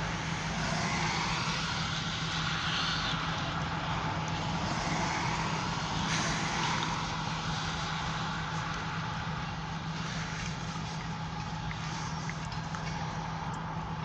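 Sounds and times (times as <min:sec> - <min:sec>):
constant low hum: 0:00.0 - 0:14.0.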